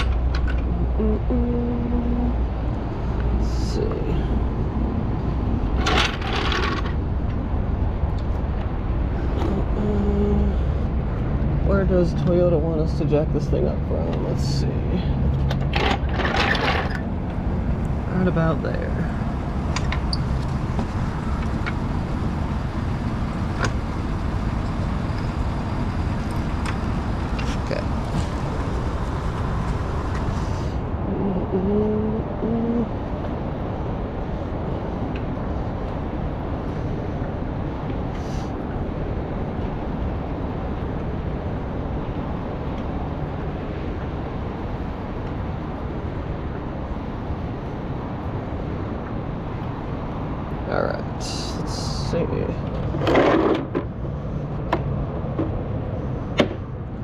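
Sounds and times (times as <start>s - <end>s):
vehicle engine idling: 0.0s - 16.2s, 16.8s - 53.0s.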